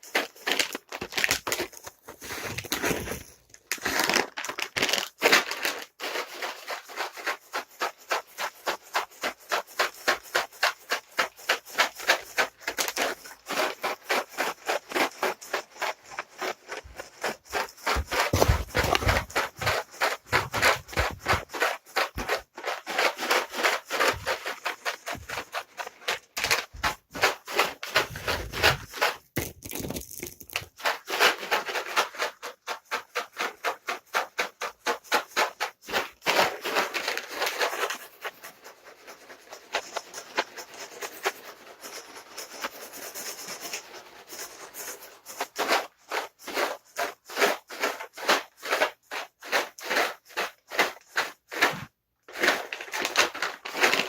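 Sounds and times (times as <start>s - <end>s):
cat treats rattling in container: 0.0s - 54.0s.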